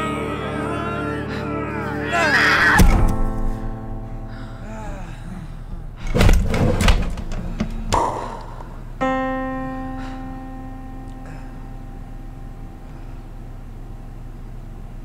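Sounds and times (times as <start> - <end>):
held musical note: 0.0 - 6.0, 8.0 - 15.0.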